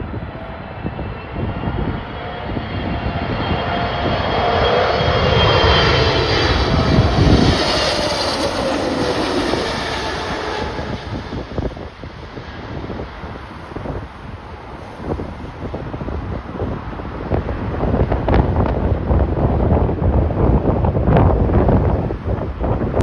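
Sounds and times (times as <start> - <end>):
jet engines roaring past: 0.0 - 23.0
wind rumble on microphone: 0.0 - 23.0.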